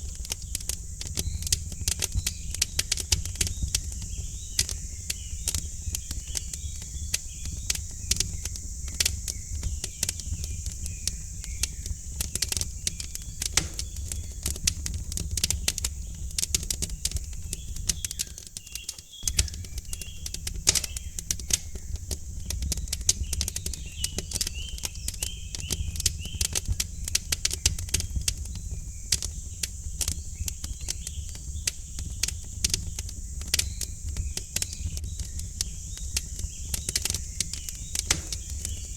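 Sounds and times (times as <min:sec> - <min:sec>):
small birds chirping: 0:00.0 - 0:38.9
wood fire crackling and popping: 0:00.0 - 0:38.9.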